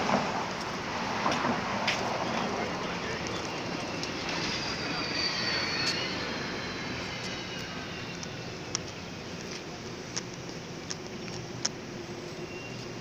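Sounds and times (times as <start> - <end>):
city background noise: 0.0 - 13.0
faint high whine: 1.7 - 13.0.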